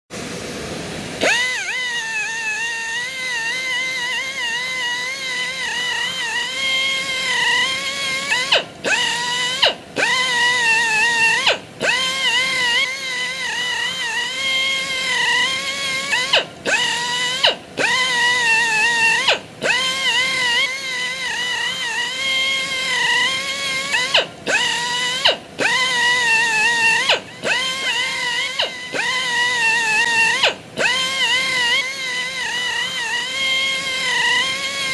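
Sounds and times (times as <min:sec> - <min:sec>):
angle grinder whining: 0:00.2 - 0:34.9.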